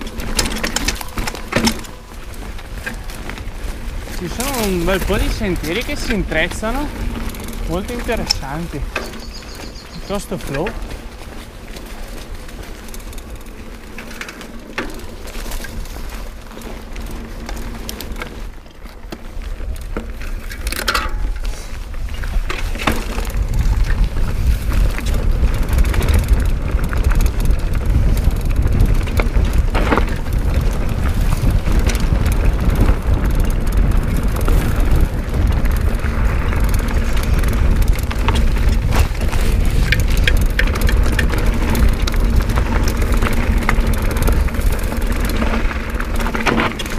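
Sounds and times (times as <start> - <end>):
bike tyres rolling on dirt: 0.0 - 46.9
wind rumbling on microphone: 0.0 - 46.9.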